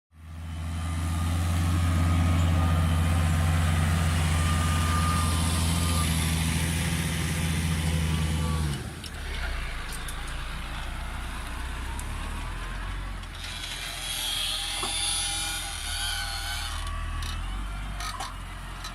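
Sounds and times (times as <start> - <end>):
tractor diesel engine running: 0.2 - 18.9.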